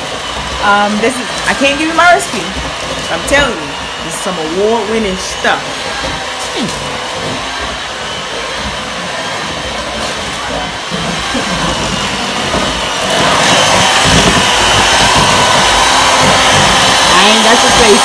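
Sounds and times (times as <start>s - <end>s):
electric hand mixer whirring: 0.0s - 18.0s.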